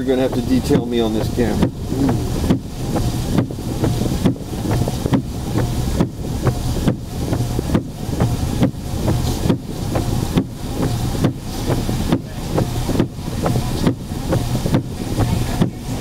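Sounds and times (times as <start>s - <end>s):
heavy rain on car roof: 0.0s - 16.0s
low steady hum: 0.0s - 16.0s.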